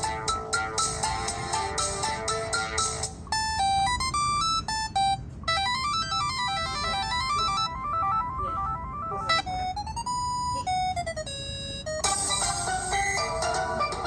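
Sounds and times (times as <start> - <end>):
synthesized beeping ringtone melody: 0.0 - 14.0.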